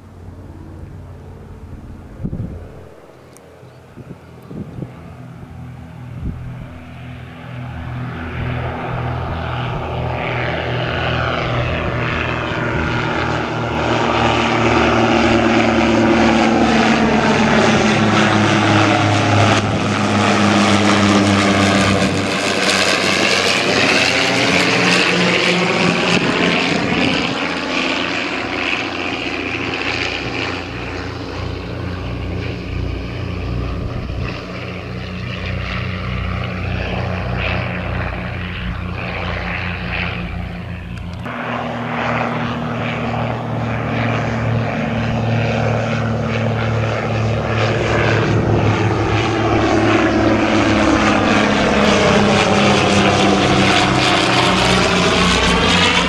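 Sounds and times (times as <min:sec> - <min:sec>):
propeller plane engines droning: 0:00.0 - 0:56.0.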